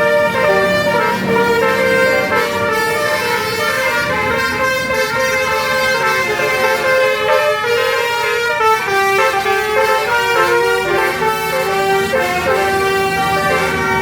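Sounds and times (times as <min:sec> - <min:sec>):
musical bus horns playing a tune: 0:00.0 - 0:14.0.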